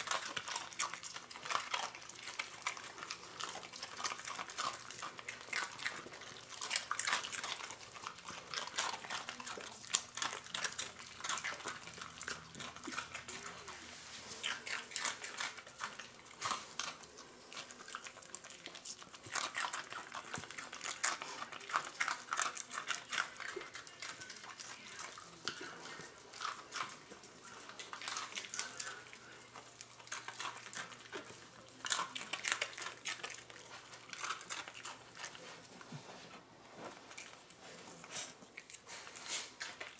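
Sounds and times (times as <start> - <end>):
dogs crunching dry cereal: 0.0 - 39.9.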